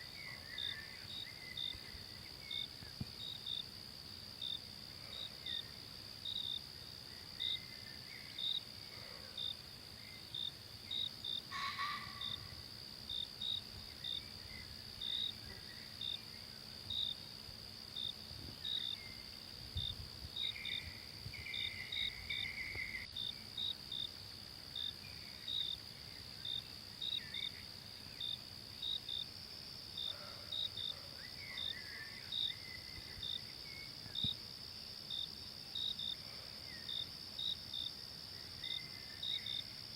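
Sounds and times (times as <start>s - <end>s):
insect chirps: 0.0s - 39.9s
insects droning: 0.0s - 39.9s.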